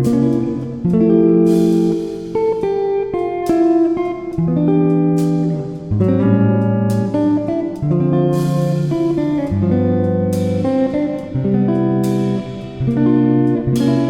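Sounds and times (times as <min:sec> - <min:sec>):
strummed guitar music: 0:00.0 - 0:14.0.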